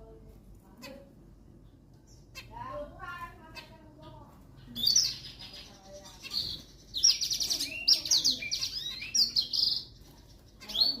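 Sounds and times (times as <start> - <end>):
buzzy finch song: 2.0 - 11.0
finch calls: 2.1 - 11.0.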